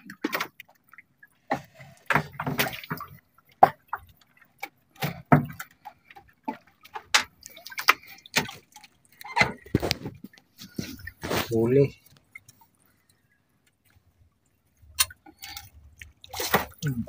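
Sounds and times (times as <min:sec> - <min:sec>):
wet splashes and drips: 0:00.0 - 0:17.0.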